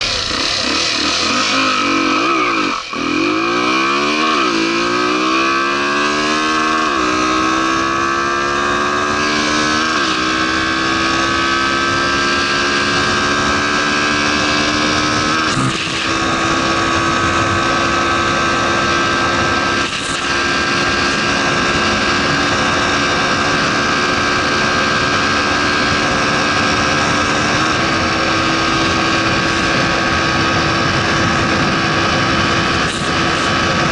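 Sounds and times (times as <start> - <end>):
motorcycle engine at full throttle: 0.0 - 33.9.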